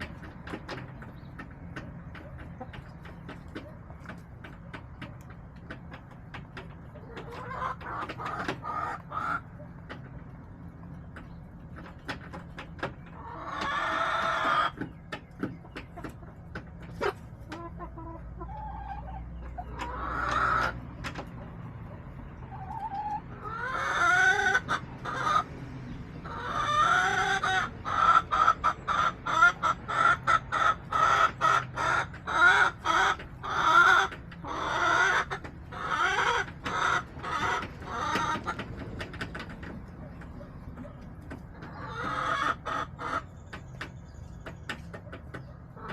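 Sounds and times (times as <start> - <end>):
hens clucking: 0.0 - 45.9.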